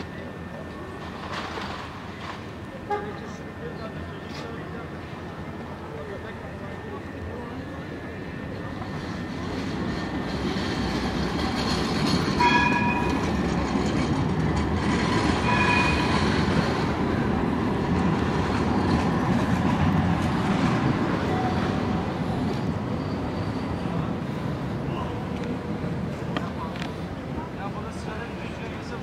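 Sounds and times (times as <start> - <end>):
tram wheels rumbling on rails: 0.0 - 29.0.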